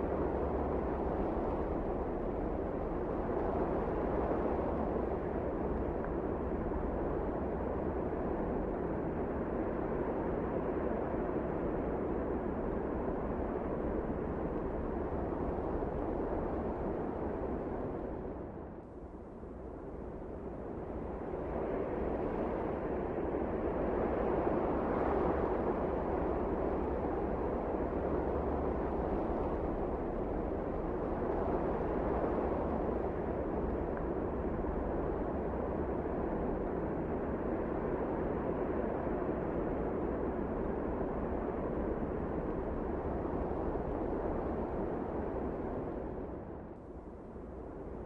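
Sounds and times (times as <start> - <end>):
wind blowing steadily: 0.0 - 48.0.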